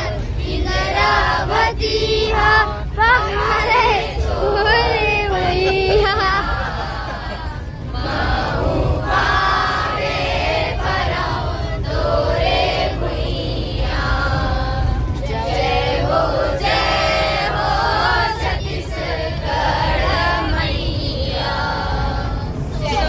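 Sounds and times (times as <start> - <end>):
bus engine rumble: 0.0 - 23.0
group singing in chorus: 0.0 - 23.0.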